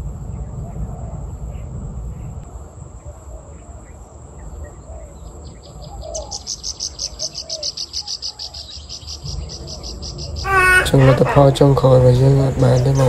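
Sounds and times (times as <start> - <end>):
high insect whine: 0.0 - 13.0
insect chirping: 0.0 - 13.0
faint low bird calls: 0.3 - 13.0.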